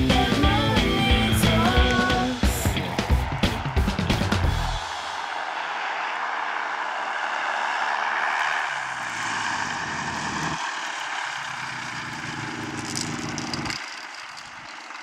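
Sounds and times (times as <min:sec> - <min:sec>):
microlight engine and propeller: 0:01.8 - 0:15.0.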